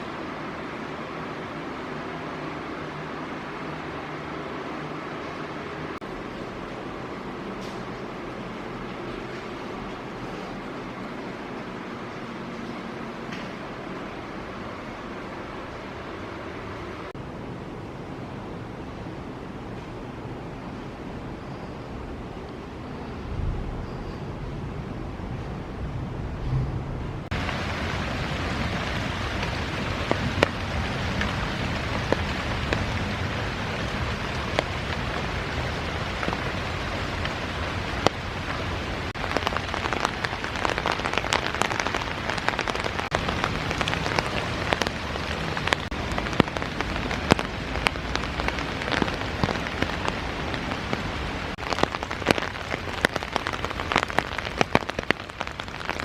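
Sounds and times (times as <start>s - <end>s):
steady rain falling: 0.0s - 23.8s, 27.2s - 56.0s.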